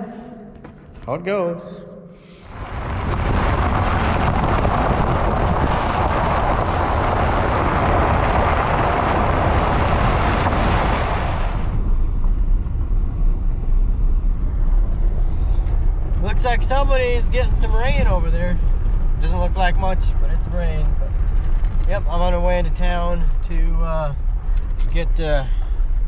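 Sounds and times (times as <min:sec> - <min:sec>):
vehicle road and engine rumble: 0:02.5 - 0:26.0.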